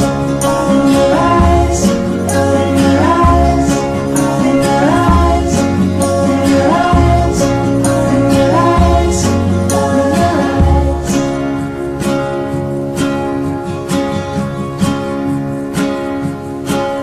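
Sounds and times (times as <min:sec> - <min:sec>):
guitar-led song with bass and beat: 0:00.0 - 0:17.0.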